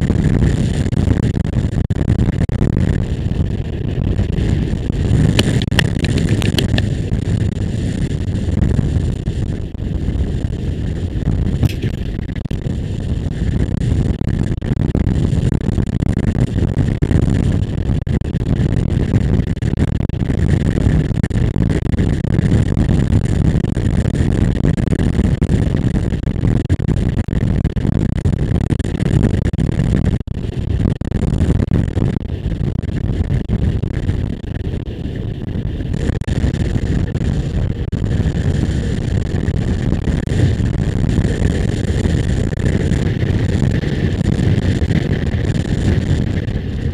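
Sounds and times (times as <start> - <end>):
wind rumble on microphone: 0.0 - 46.9.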